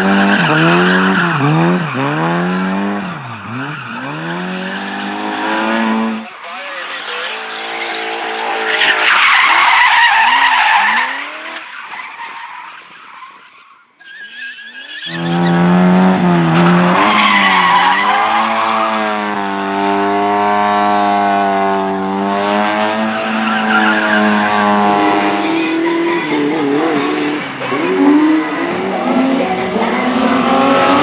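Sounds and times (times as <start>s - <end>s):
rally car engine revving: 0.0s - 12.2s, 14.8s - 31.0s
rally car passing at high revs: 0.0s - 13.0s, 14.8s - 31.0s.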